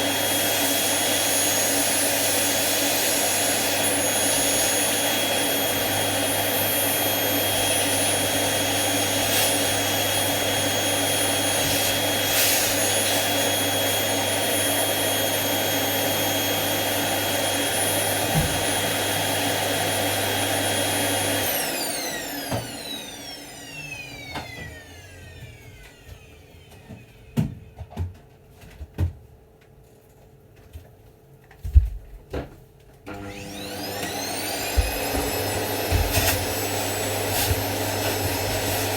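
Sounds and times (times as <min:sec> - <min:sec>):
vacuum cleaner motor whine: 0:00.0 - 0:28.2, 0:33.1 - 0:38.9.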